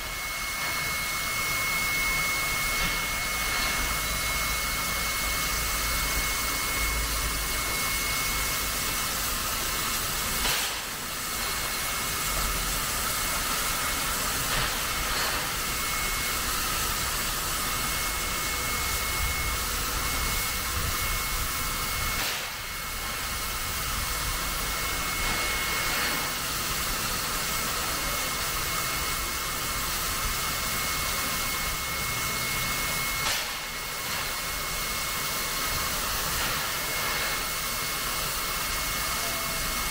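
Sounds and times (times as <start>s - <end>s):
locomotive steam hissing: 0.0s - 39.9s.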